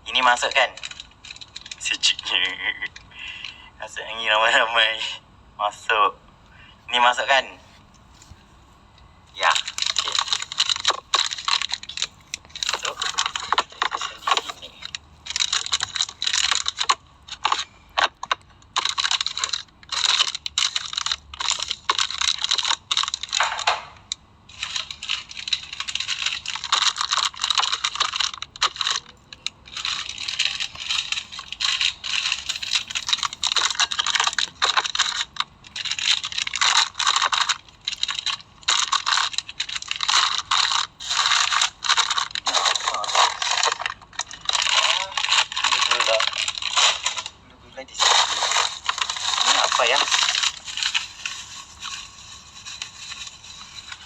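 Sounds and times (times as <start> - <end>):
wrappers crinkling and rustling: 0.4 - 3.6, 7.3 - 54.0.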